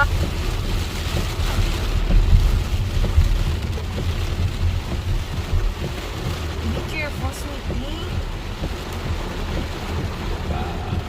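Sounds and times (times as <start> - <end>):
heavy rain falling: 0.0 - 11.0
low rumble: 0.0 - 11.0.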